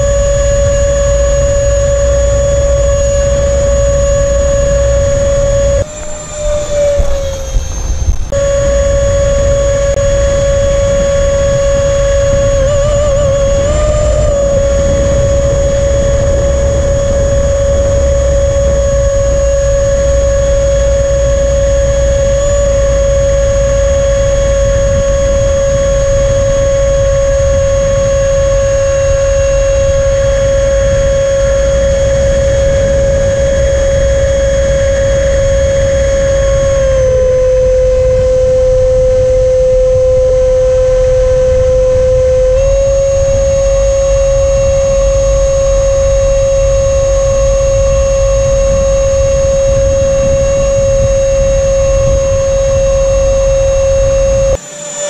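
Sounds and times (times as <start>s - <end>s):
airflow rumbling on microphone: 0.0s - 54.6s
electric ducted fan whine: 0.0s - 55.0s.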